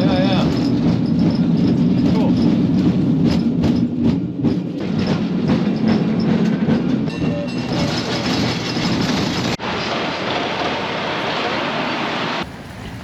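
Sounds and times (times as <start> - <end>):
cable car rumbling: 0.0 - 13.0.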